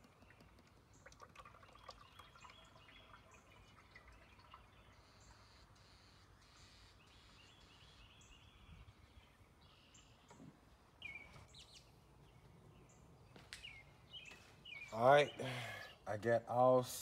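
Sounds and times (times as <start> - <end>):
distant bird chirps: 0.0 - 16.3.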